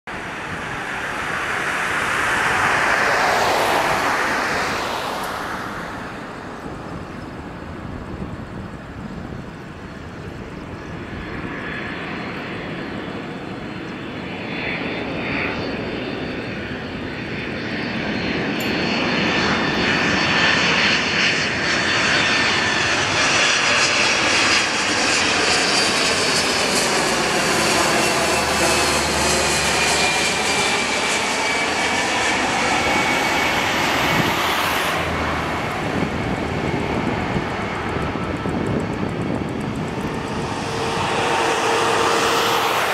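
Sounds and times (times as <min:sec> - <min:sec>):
jet engines on landing approach: 0:00.1 - 0:42.9.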